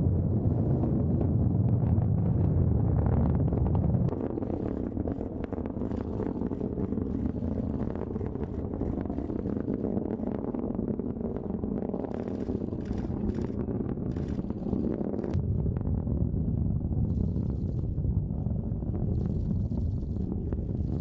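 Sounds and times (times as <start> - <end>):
rocket engines rumbling: 0.0 - 21.0.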